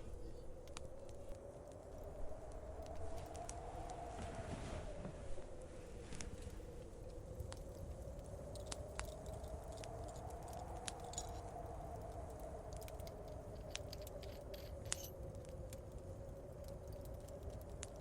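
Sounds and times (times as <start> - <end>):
faint wind howl: 0.0 - 18.0
fireplace crackling: 0.0 - 18.0.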